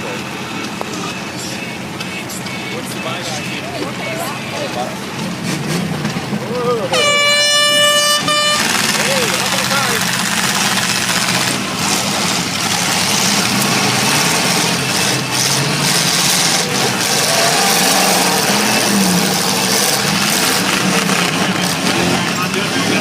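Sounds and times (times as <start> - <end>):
car engines revving: 0.0 - 23.0.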